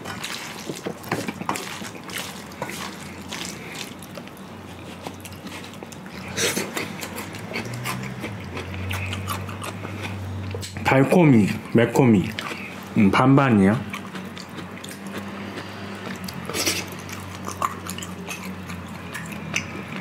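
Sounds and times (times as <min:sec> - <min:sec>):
wet chewing and lip smacks: 0:00.1 - 0:10.8, 0:12.2 - 0:12.9, 0:13.9 - 0:20.0.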